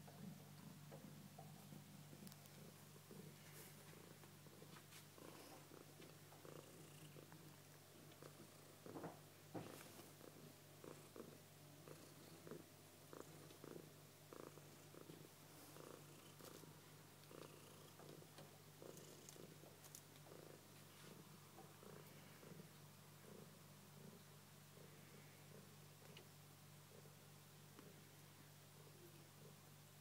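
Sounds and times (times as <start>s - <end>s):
cat purring: 0.0s - 29.8s
steady low hum: 0.0s - 30.0s.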